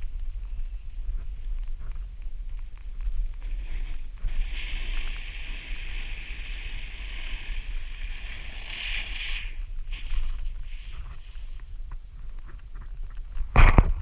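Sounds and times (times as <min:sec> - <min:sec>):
snow sliding hiss: 0:00.0 - 0:11.8
wind rumble on microphone: 0:00.0 - 0:14.0.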